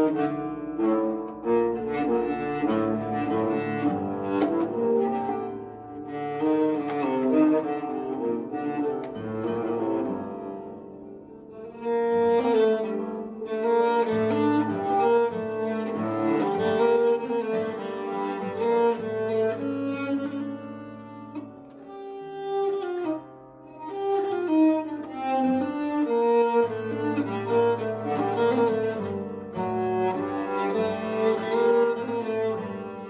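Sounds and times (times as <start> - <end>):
bowed string folk tune: 0.0 - 33.0.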